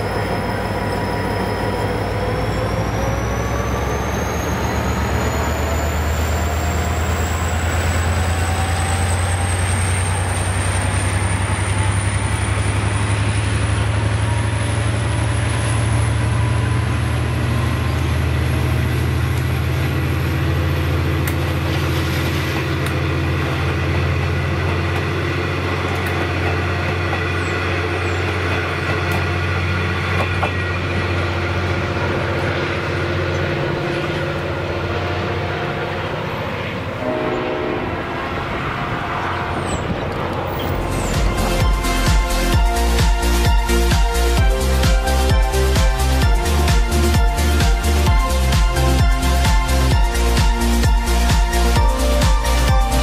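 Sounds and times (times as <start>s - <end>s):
high rising whine: 0.0s - 22.4s, 30.5s - 53.0s
diesel locomotive engine drone: 0.0s - 53.0s.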